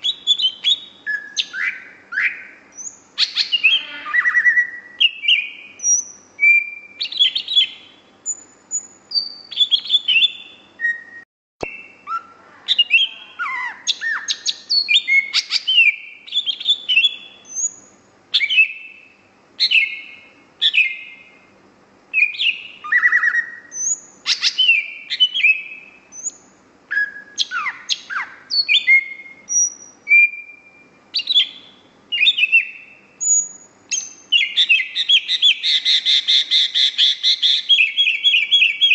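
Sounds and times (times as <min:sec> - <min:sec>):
bird singing whistled notes: 0:00.0 - 0:21.5, 0:22.1 - 0:38.9.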